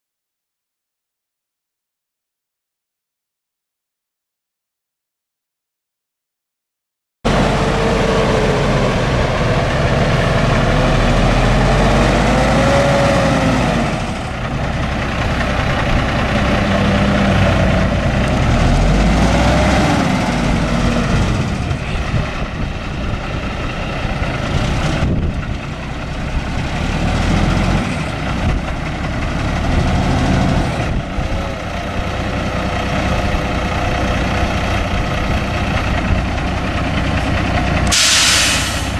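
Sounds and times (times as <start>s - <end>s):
diesel truck engine revving: 7.3s - 38.9s.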